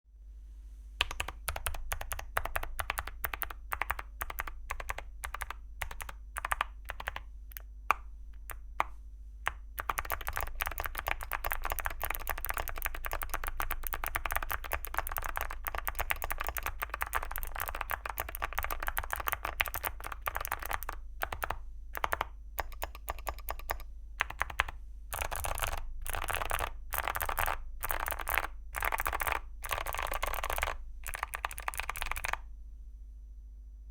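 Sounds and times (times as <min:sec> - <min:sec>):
clicky keyboard typing: 0:01.0 - 0:32.5.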